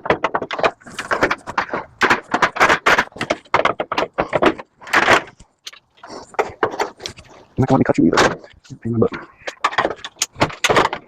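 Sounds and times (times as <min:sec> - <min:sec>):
scraping rasps: 0:00.0 - 0:11.0.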